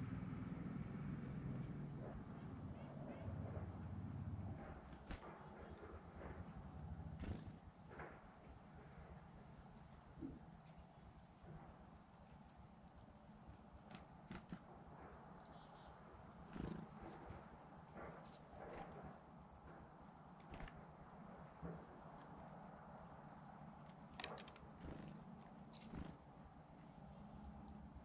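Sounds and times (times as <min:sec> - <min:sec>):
low background hum: 0:00.0 - 0:28.0
songbirds chirping: 0:00.0 - 0:28.0.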